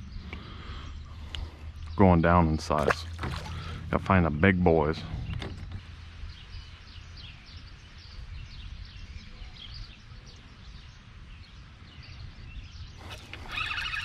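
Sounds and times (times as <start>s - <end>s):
steady low rumble: 0.0s - 12.9s
birds chirping: 0.0s - 14.0s.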